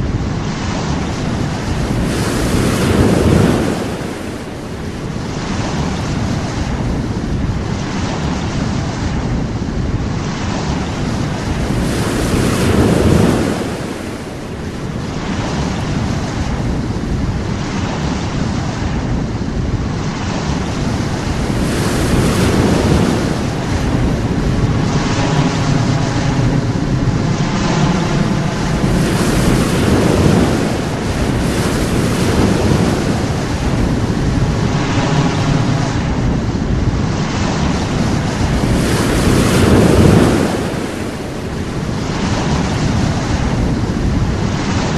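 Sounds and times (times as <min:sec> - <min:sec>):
sea waves washing onto shore: 0:00.0 - 0:44.9
wind buffeting microphone: 0:00.0 - 0:44.9.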